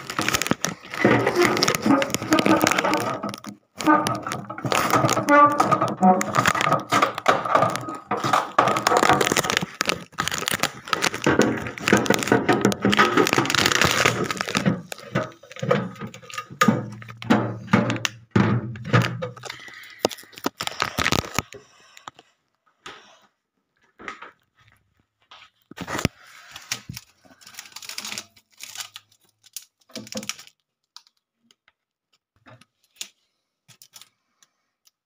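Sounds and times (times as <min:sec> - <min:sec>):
foam and plastic crackling: 0:00.0 - 0:22.2, 0:25.5 - 0:31.8, 0:32.4 - 0:34.2.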